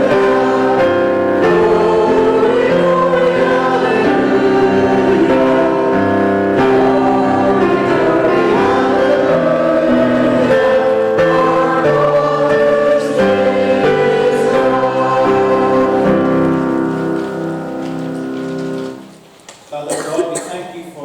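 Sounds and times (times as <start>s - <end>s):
congregation singing a hymn: 0.0s - 19.2s
instrumental accompaniment: 0.0s - 20.0s.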